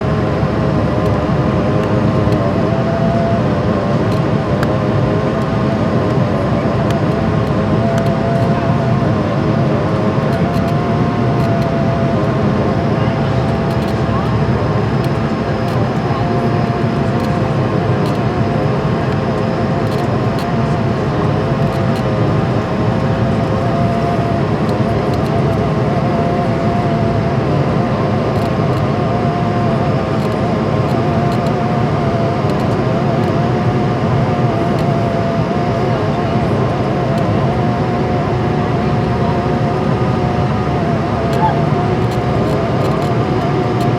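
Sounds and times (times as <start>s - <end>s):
airliner cabin engine noise: 0.0s - 43.9s
wavering whine: 0.0s - 43.9s.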